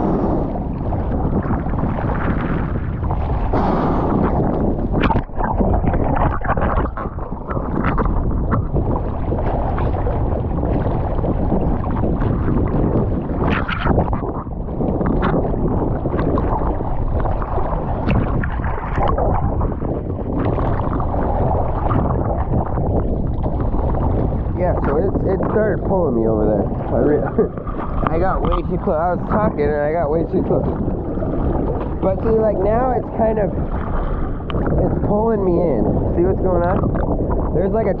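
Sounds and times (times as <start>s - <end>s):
water sloshing and splashing: 0.0s - 38.0s
wind buffeting microphone: 0.0s - 38.0s.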